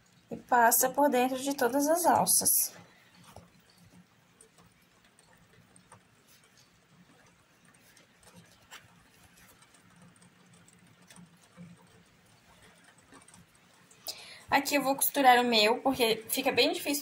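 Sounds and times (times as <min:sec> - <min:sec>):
faint clicks and taps: 0:01.1 - 0:17.0.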